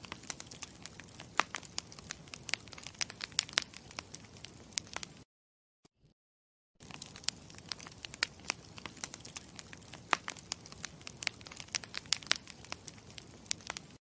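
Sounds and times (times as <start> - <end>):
wood fire crackling: 0.0 - 5.2, 6.8 - 14.0.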